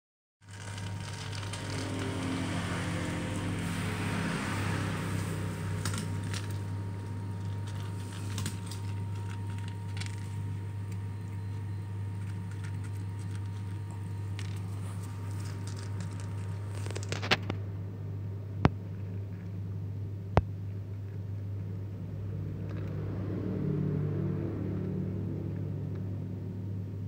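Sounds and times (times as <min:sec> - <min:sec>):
cat crunching rice: 0:00.4 - 0:17.6, 0:18.7 - 0:19.8, 0:20.4 - 0:26.8
low hum: 0:00.4 - 0:27.0.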